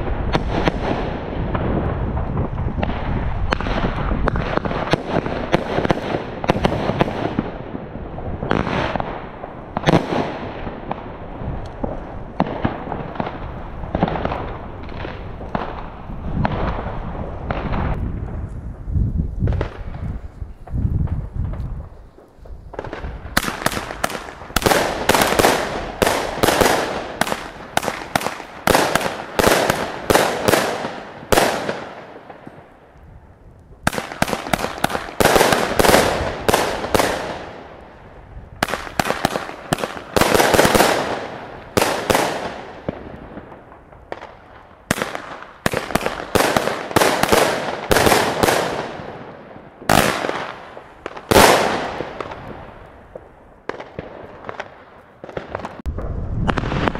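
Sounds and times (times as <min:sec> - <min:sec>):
fireworks firing sharp bangs: 0:00.0 - 0:18.5, 0:19.4 - 0:56.9.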